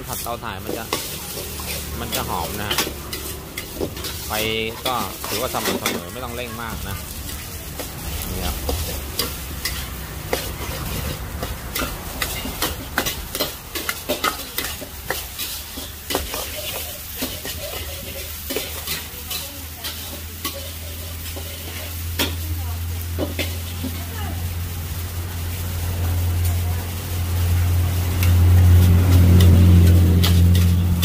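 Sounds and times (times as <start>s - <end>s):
food sizzling: 0.0s - 31.0s
metal spatula clanking on wok: 0.1s - 24.2s, 27.5s - 31.0s.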